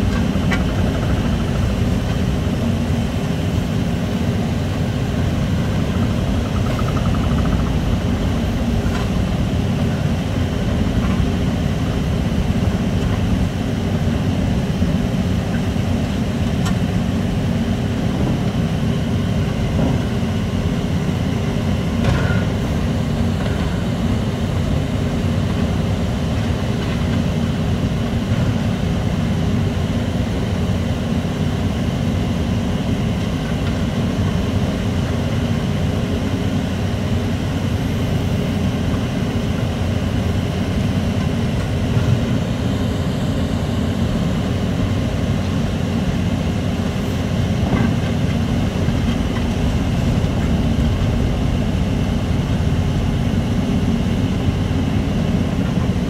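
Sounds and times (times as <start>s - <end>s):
heavy diesel machinery drone: 0.0s - 56.0s.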